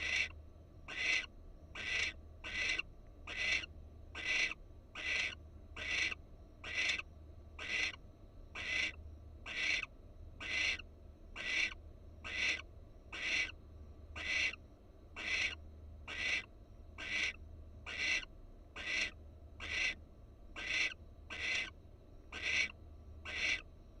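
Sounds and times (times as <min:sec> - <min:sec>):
owl rasping hiss calls: 0:00.0 - 0:07.0, 0:07.6 - 0:08.0, 0:08.6 - 0:10.8, 0:11.4 - 0:13.6, 0:14.2 - 0:14.6, 0:15.2 - 0:20.0, 0:20.6 - 0:21.7, 0:22.3 - 0:23.6.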